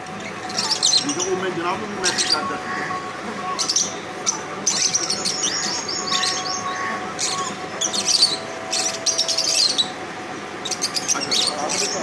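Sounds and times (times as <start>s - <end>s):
birds chirping in bursts: 0.0s - 12.0s.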